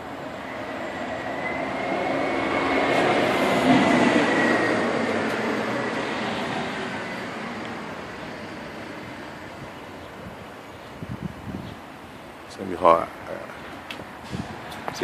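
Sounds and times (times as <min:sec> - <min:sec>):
passing vehicle rumble: 0:00.0 - 0:11.6, 0:13.0 - 0:15.0
faint high whine: 0:00.0 - 0:13.6.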